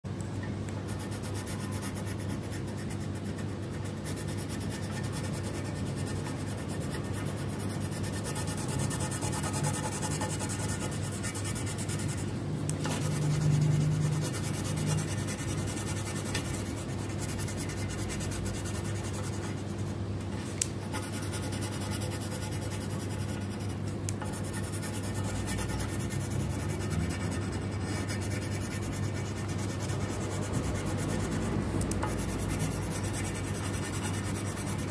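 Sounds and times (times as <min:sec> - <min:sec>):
steady low hum: 0:00.1 - 0:34.9
pencil shading on paper: 0:00.9 - 0:19.8, 0:20.9 - 0:34.9.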